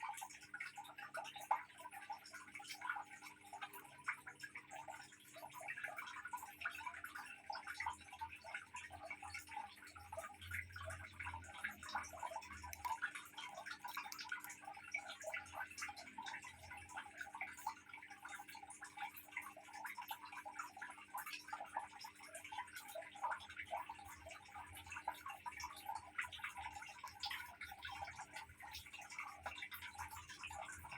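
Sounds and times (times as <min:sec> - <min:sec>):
water dripping into aquarium: 0:00.0 - 0:30.9.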